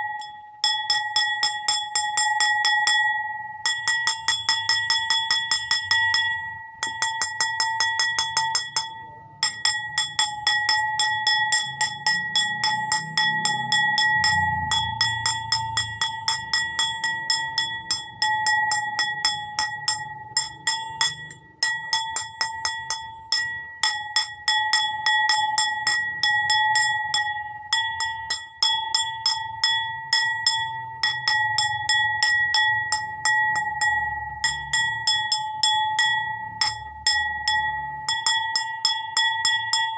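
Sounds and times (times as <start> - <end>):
bowl struck ringing: 0.0 - 39.9.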